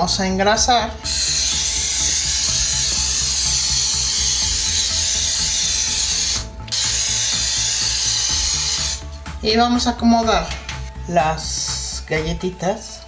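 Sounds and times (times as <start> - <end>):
background dance music: 0.0 - 13.0.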